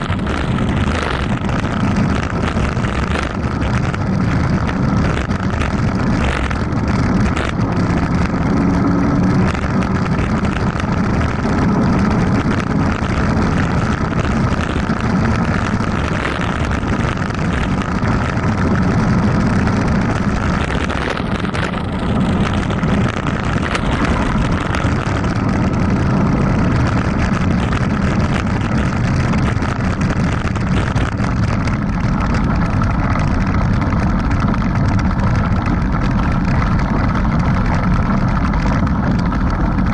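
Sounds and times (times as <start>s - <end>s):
bike rattling over bumps: 0.0s - 39.9s
bike tyres rumbling on dirt: 0.0s - 39.9s
wind on microphone: 0.0s - 39.9s.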